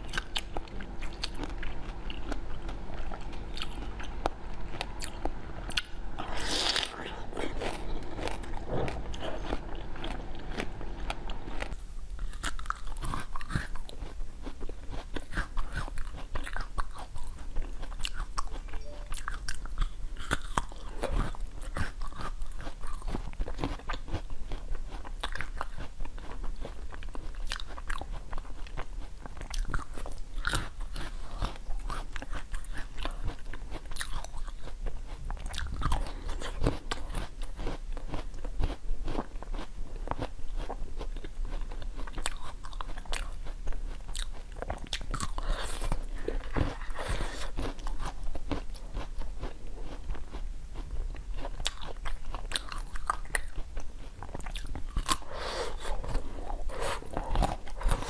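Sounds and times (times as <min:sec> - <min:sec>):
chewing crunchy frozen fruit: 0:00.0 - 0:58.0.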